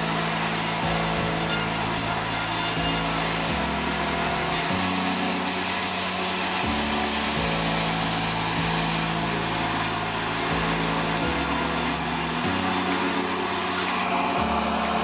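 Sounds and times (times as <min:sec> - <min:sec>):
low droning tones: 0:00.0 - 0:15.0
sawmill machinery rushing noise: 0:00.0 - 0:15.0.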